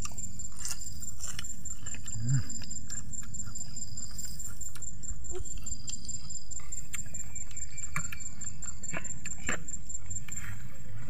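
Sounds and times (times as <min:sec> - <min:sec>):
insect chirping trill: 0:00.0 - 0:11.0.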